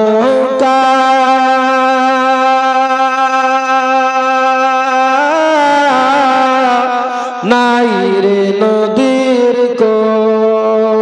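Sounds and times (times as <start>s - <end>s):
man singing into a microphone: 0.0s - 11.0s.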